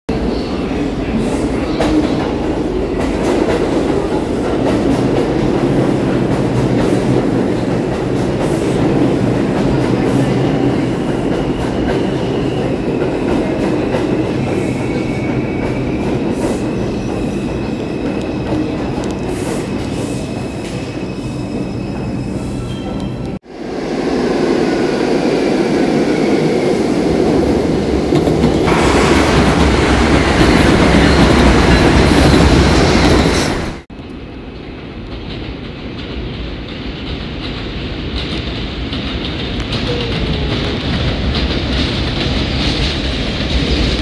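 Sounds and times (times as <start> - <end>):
subway train rumbling: 0.1 - 44.0.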